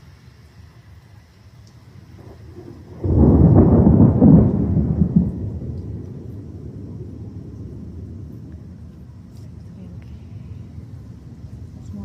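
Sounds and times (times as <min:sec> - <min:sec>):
thunder crack and rumble: 0:02.1 - 0:12.0.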